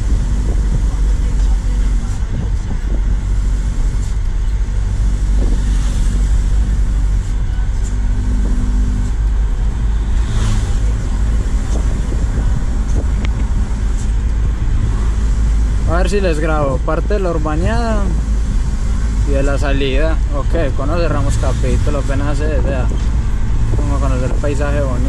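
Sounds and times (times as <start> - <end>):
low road rumble: 0.0 - 25.0
truck engine pulling hard: 0.0 - 25.0.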